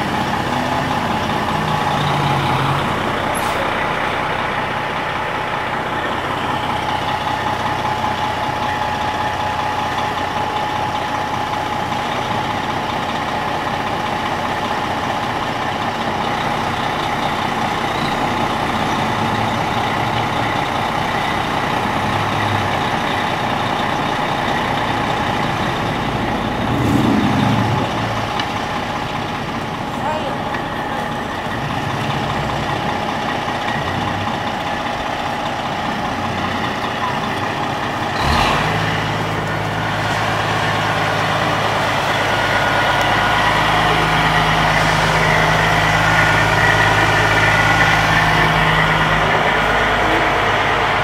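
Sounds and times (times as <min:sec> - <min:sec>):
fire truck engine idling: 0:00.0 - 0:51.0.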